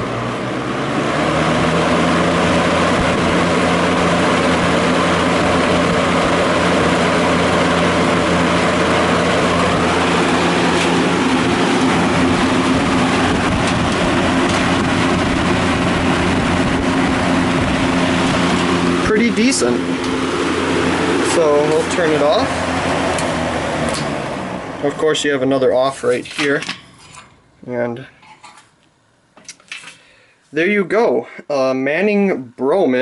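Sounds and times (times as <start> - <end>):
box fan running: 0.0 - 33.0.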